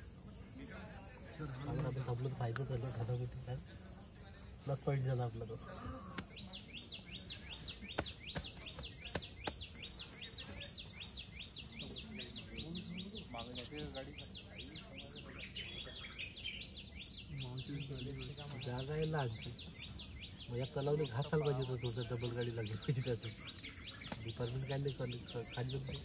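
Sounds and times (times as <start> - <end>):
high insect drone: 0.0 - 26.0
faint low voices murmuring: 0.4 - 26.0.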